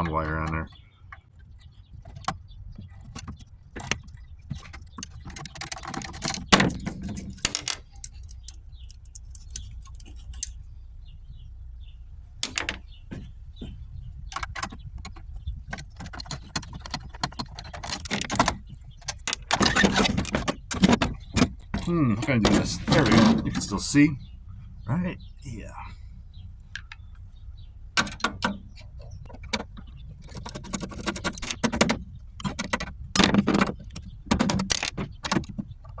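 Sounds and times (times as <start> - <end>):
metal parts and tools rattling: 0.0 - 10.7, 12.4 - 24.0, 28.0 - 36.0.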